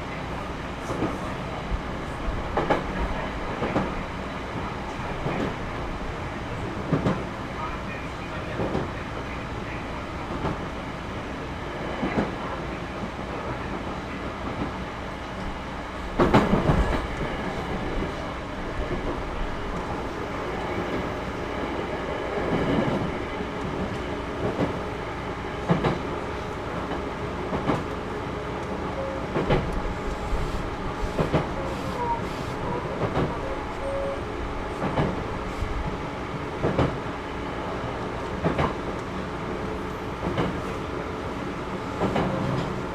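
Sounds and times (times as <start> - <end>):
loud train clatter: 0.0 - 42.9
train wheels rumbling: 0.0 - 42.9.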